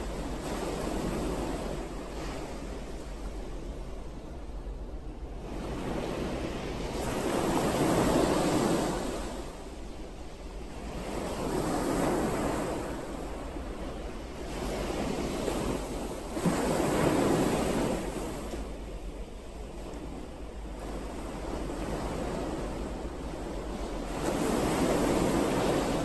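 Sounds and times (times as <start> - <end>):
ocean waves washing onto shore: 0.0 - 26.0.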